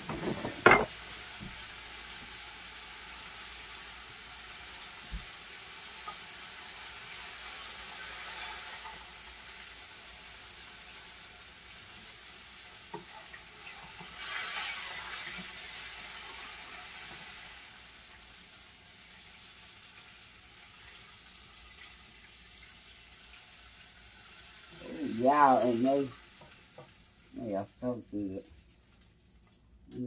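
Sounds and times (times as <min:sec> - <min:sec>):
deep-frying sizzle: 0:00.0 - 0:30.0.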